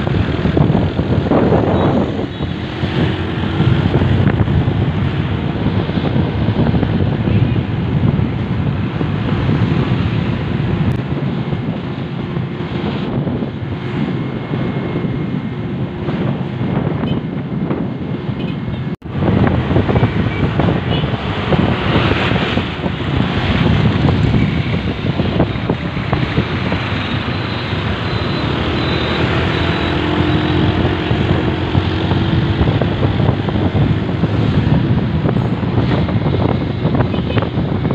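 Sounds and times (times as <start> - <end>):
road and traffic noise: 0.0 - 37.9
wind noise on microphone: 0.0 - 37.9.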